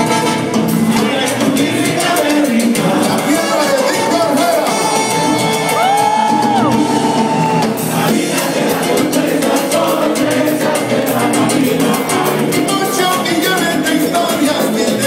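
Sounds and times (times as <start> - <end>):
latin percussion: 0.0 - 15.0
live salsa band: 0.0 - 15.0.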